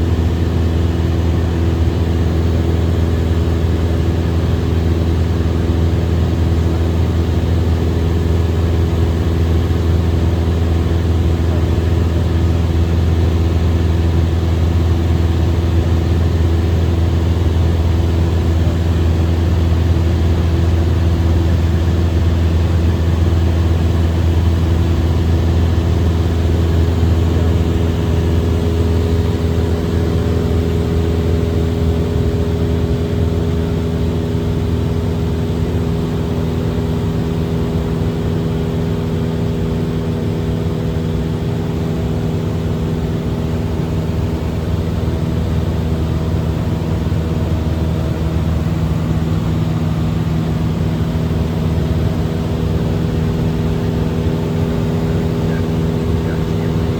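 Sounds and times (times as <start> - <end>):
small airplane engine and propeller: 0.0 - 56.9.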